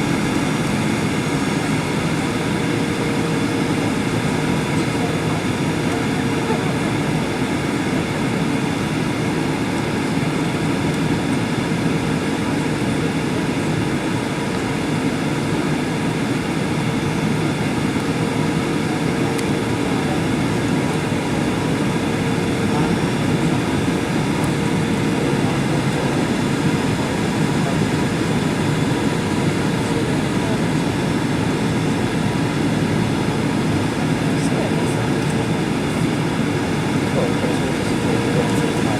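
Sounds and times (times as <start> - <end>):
airplane engine and airflow noise: 0.0 - 38.9.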